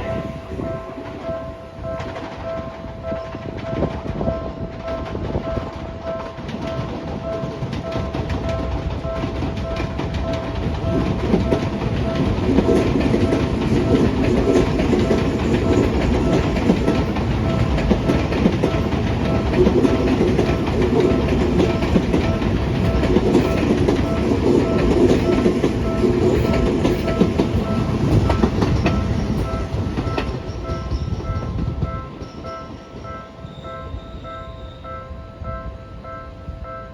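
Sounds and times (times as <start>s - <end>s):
train wheels clattering on rails: 0.0s - 36.8s
level crossing warning bell: 0.0s - 36.9s.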